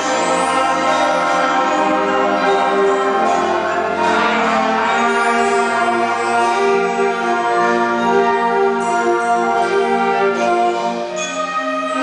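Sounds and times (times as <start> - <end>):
orchestra playing slow chords: 0.0 - 12.0.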